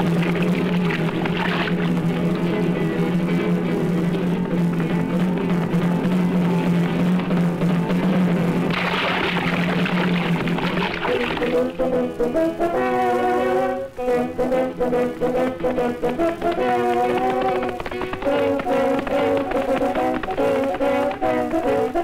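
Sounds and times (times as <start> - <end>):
film score music: 0.0 - 22.0.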